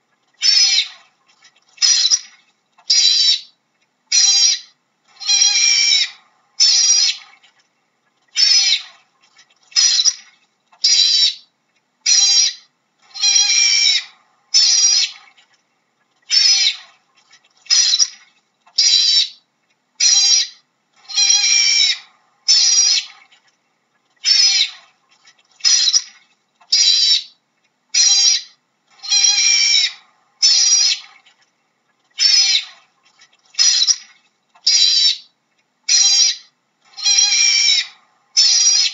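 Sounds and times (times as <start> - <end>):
otter chirping calls: 0.4 - 1.0, 1.7 - 7.3, 8.3 - 15.2, 16.3 - 19.4, 20.0 - 23.1, 24.2 - 27.4, 28.0 - 31.2, 32.2 - 38.9.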